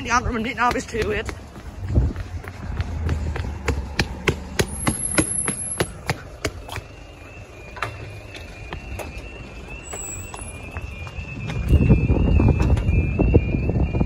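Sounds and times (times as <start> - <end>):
footsteps on paving: 0.0 - 12.1
level crossing warning alarm: 2.6 - 14.0.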